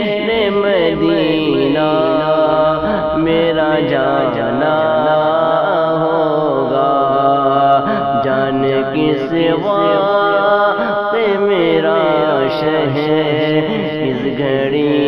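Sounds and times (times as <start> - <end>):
chanted vocal backing: 0.0 - 15.0
man singing devotional song: 0.0 - 15.0.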